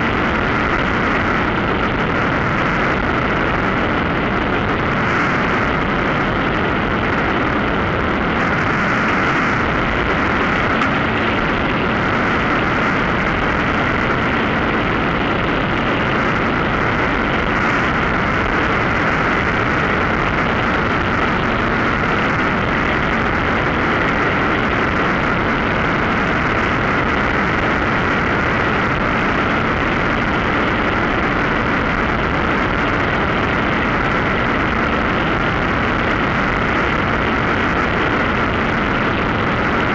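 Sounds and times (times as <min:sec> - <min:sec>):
rushing in-flight drone: 0:00.0 - 0:39.9.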